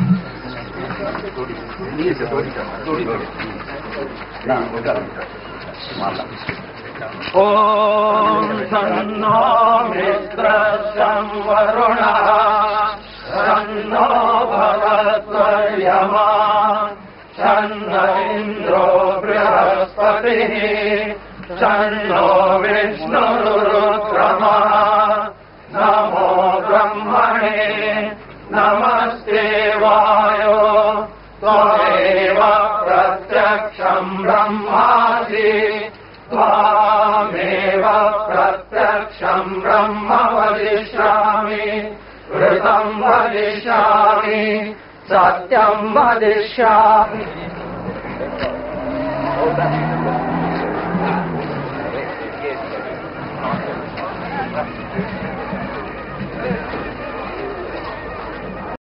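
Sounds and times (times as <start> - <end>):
men chanting in unison: 7.4 - 55.0.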